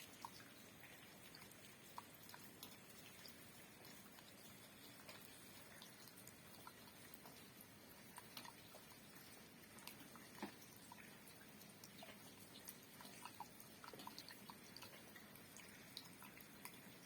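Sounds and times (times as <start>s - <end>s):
light rain hiss: 0.0s - 17.0s.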